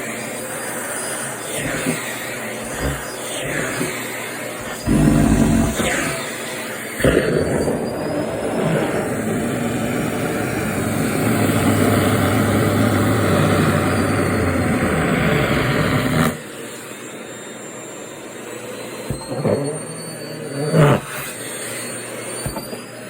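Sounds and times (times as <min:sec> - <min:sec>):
vacuum cleaner rushing noise: 0:00.0 - 0:23.0.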